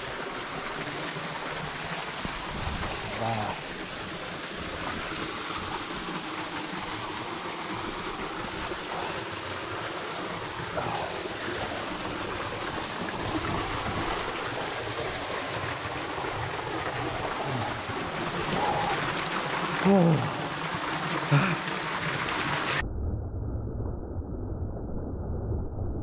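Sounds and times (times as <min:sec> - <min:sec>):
river and waterfall rushing: 0:00.0 - 0:22.8.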